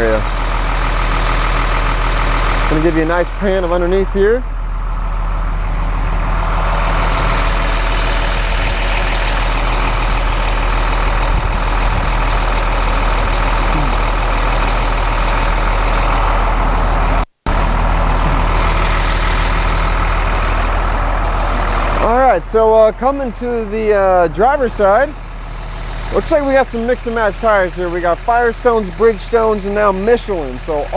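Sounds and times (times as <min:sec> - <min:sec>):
diesel bus engine idling: 0:00.0 - 0:30.9.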